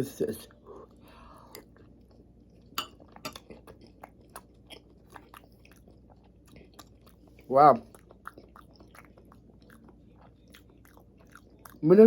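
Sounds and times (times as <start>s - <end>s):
person chewing food: 0.5s - 12.0s.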